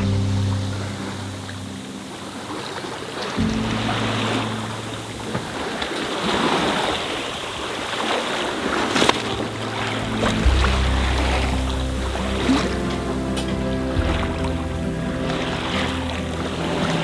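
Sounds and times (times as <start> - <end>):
water splashing along hull: 0.0 - 17.0.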